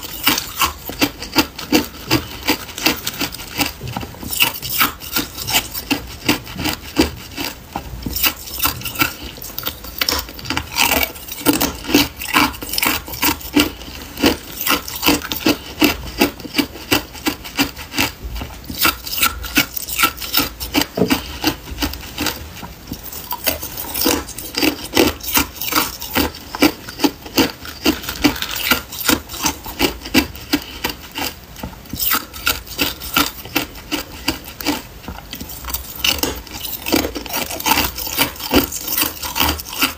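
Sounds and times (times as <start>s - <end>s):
ice cubes being chewed: 0.0s - 39.9s.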